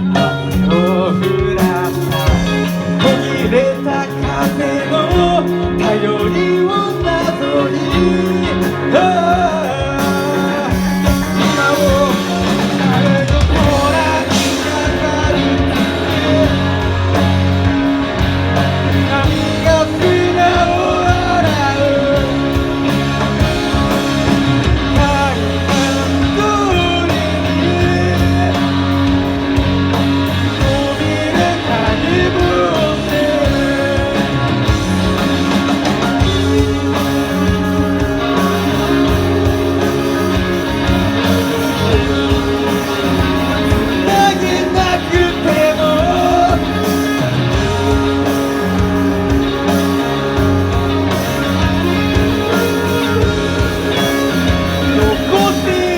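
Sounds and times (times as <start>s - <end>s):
bending lead guitar melody: 0.0s - 55.9s
rock band playing: 0.0s - 55.9s.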